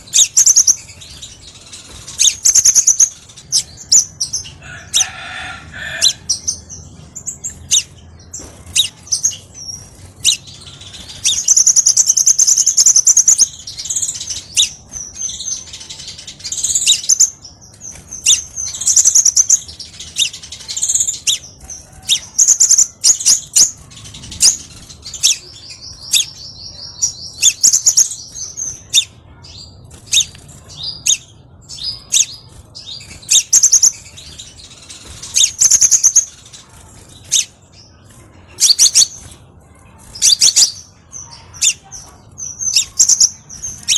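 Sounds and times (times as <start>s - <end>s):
bird trills and chirps: 0.0s - 43.9s.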